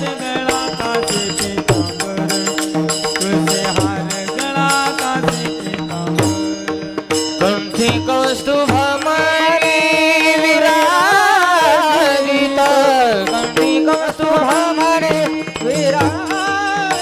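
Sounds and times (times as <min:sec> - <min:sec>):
person singing devotional song: 0:00.0 - 0:17.0.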